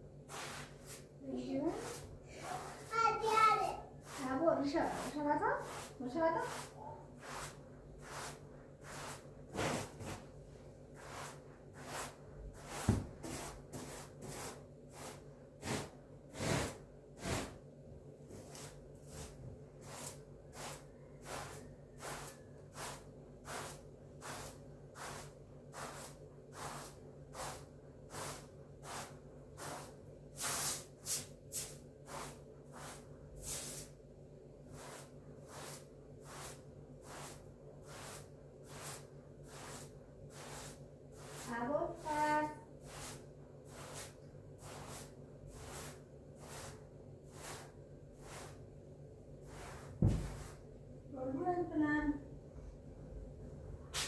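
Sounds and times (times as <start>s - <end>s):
broom sweeping a rug: 0.0s - 17.6s, 18.2s - 50.8s.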